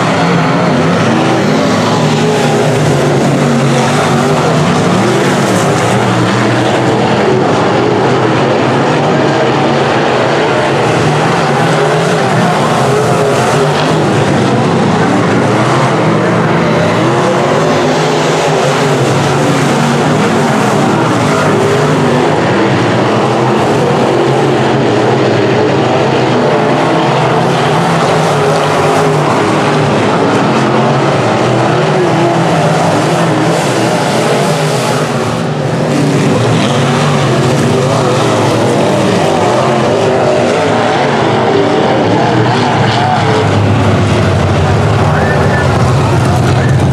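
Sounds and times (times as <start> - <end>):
race car engines passing: 0.0 - 46.9.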